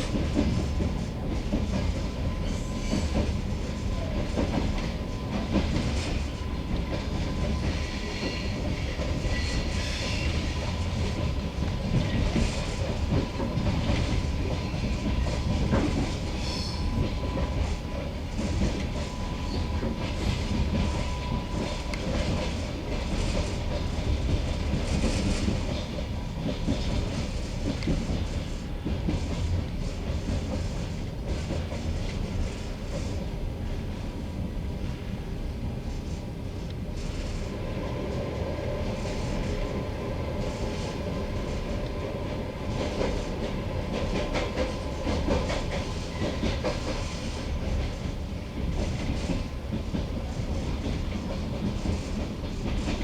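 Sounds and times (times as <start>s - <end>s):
train carriage rumble: 0.0s - 53.0s
train wheels clacking over rails: 0.0s - 53.0s.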